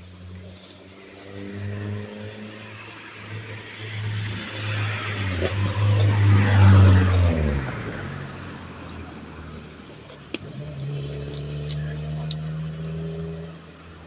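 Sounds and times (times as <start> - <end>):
vehicle driving past: 0.0 - 14.0.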